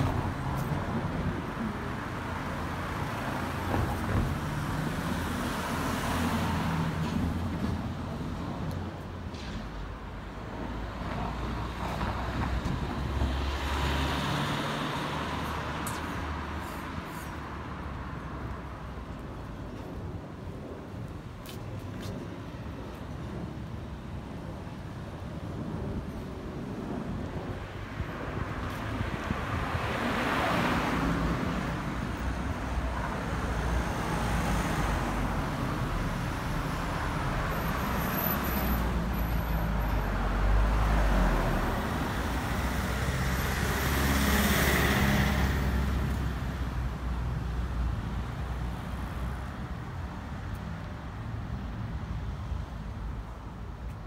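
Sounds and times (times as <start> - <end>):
cars driving past: 0.0 - 19.2, 26.9 - 53.4.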